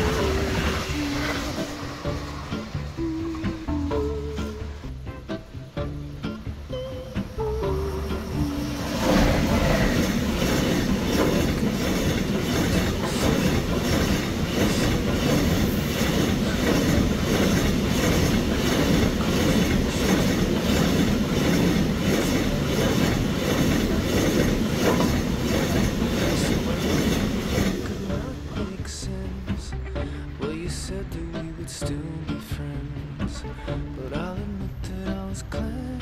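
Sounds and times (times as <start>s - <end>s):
wheels clattering on rails: 0.0s - 29.8s
freight train wheels rumbling: 0.0s - 36.0s.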